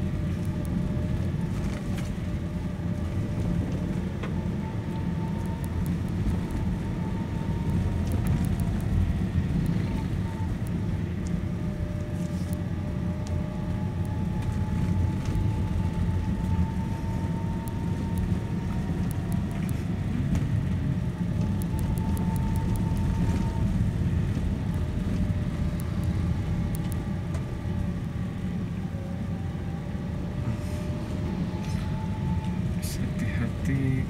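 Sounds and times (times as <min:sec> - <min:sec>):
car engine and road rumble: 0:00.0 - 0:34.0
faint whining tones: 0:00.0 - 0:34.0.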